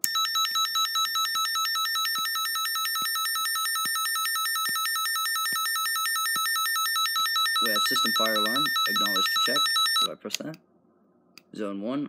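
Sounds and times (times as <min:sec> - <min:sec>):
harsh electronic alarm tone: 0:00.0 - 0:10.1.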